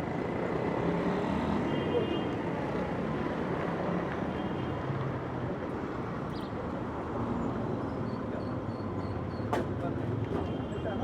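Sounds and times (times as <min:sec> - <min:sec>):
city traffic noise: 0:00.0 - 0:11.0.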